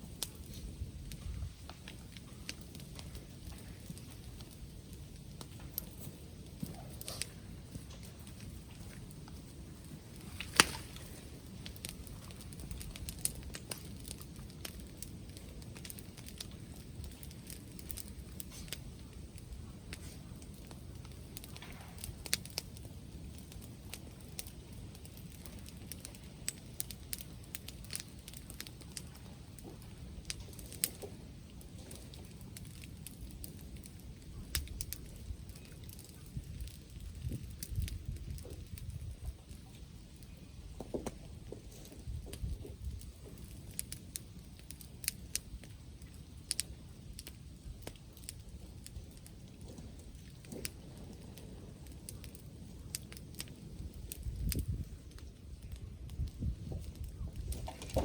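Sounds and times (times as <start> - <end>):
wind rumble on microphone: 0.0 - 58.0
wood fire crackling: 0.0 - 58.0
sharp pops and snaps: 0.1 - 39.6, 40.7 - 58.0.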